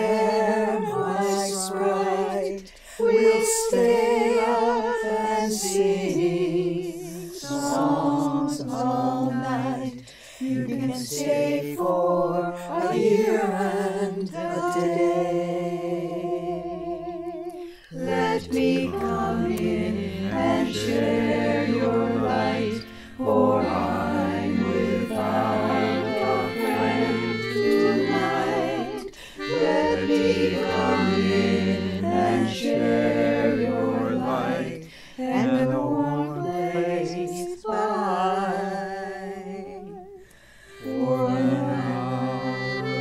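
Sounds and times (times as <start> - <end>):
women singing in harmony: 0.0 - 43.0.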